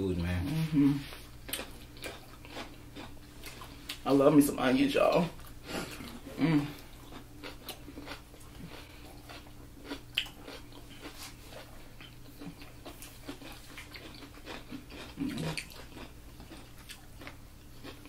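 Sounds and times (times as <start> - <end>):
faint low hum: 0.0 - 18.0
people chewing: 0.2 - 4.2, 5.0 - 18.0.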